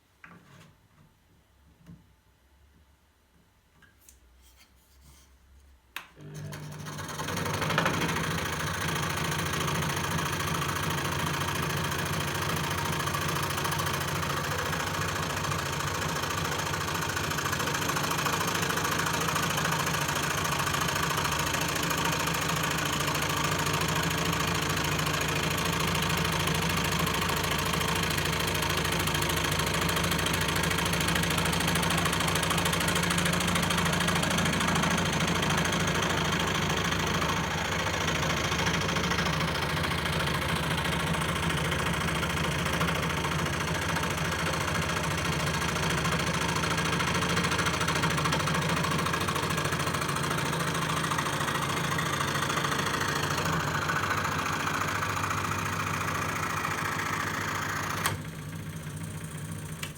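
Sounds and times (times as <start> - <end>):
scroll saw running: 6.2 - 59.9.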